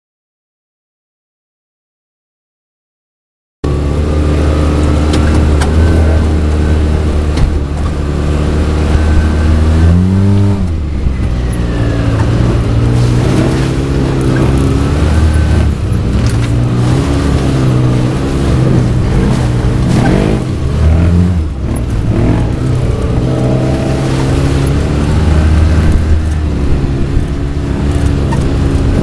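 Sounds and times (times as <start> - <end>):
off-road vehicle engine revving: 3.6 - 29.0.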